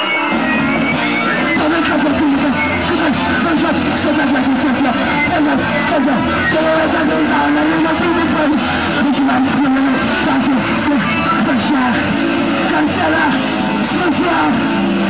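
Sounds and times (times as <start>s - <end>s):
punk band playing live: 0.0s - 15.0s.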